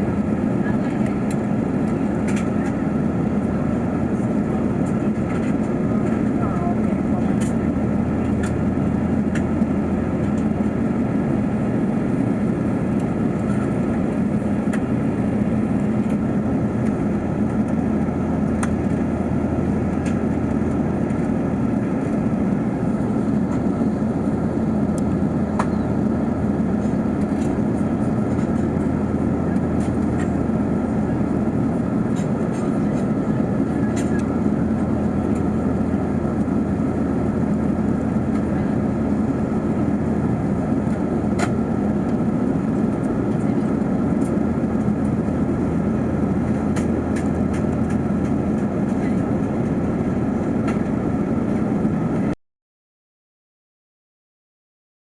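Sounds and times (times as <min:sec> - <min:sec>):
aircraft cabin engine rumble: 0:00.0 - 0:52.4.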